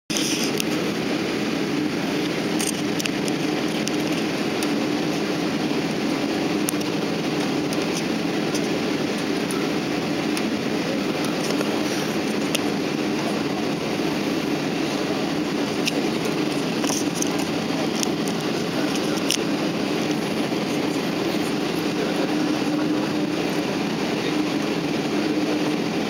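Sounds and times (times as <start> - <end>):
airliner cabin rumble and hiss: 0.1 - 26.0.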